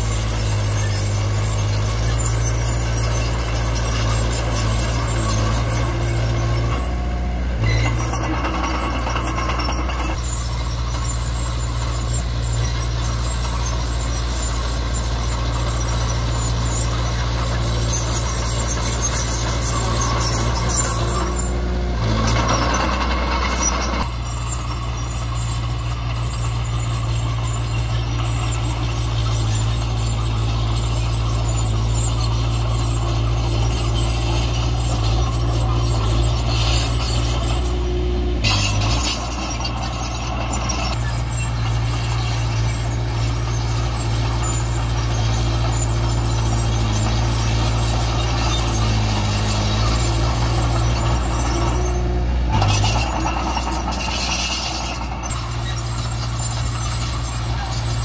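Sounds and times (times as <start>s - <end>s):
clattering mechanical noise: 0.0s - 58.0s
heavy diesel machinery engine: 0.0s - 58.0s.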